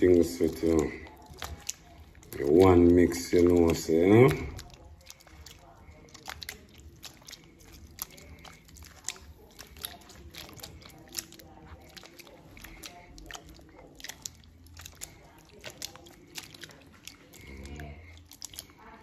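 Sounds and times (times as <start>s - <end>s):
wet clicks and splashes: 0.0s - 19.0s.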